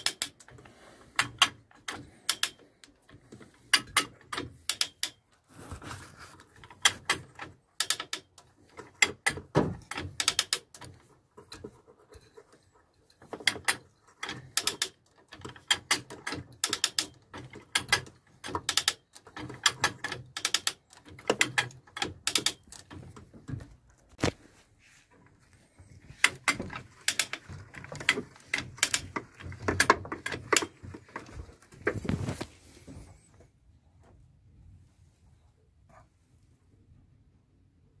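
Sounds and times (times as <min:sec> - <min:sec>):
metal clicks and knocks: 0:00.0 - 0:05.4, 0:06.4 - 0:24.4, 0:25.1 - 0:32.5.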